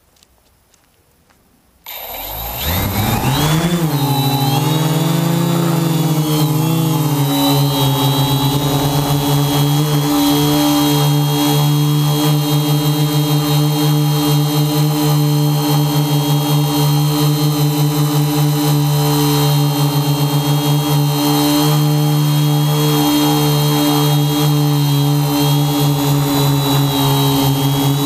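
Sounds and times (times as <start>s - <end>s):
quadcopter motors and propellers humming: 1.8s - 28.0s.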